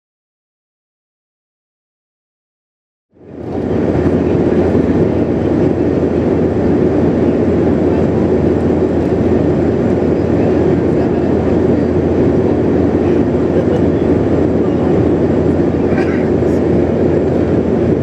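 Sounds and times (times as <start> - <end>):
airliner cabin roar: 3.2 - 18.0
jet engines: 3.2 - 18.0.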